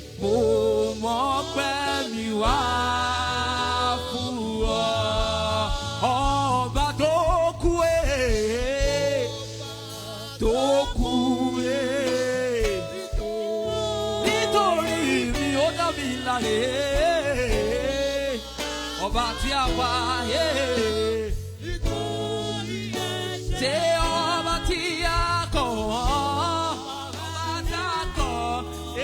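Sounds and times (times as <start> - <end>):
person singing with vibrato: 0.0 - 29.0
steady bass accompaniment: 0.0 - 29.0.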